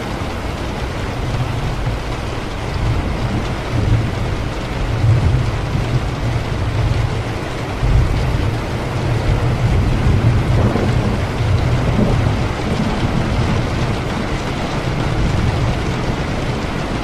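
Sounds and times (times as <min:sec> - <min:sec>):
heavy rain: 0:00.0 - 0:17.0
low rumble of thunder: 0:00.0 - 0:17.0.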